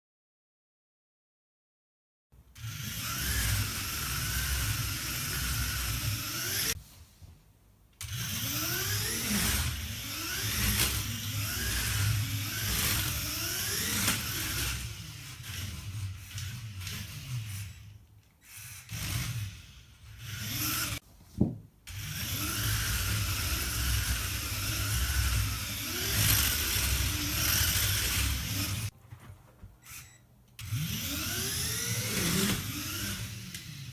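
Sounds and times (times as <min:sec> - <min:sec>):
electric motors whining: 0:02.6 - 0:06.8, 0:08.0 - 0:21.0, 0:21.9 - 0:28.9, 0:29.8 - 0:33.9.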